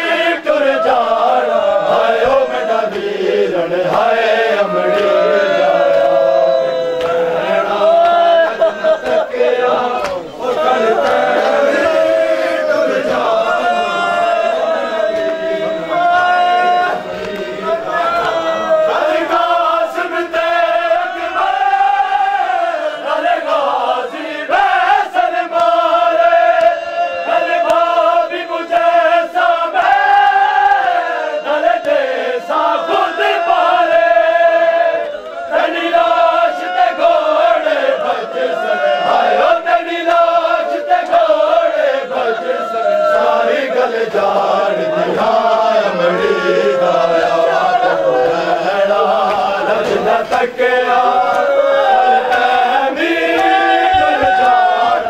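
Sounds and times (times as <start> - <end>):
men chanting a lament: 0.0 - 55.0.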